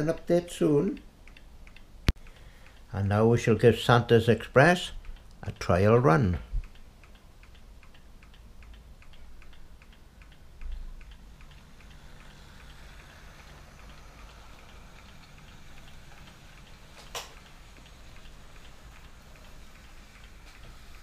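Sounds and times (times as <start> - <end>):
faint motor hum: 0.0 - 21.0
model train wheels ticking: 0.0 - 21.0.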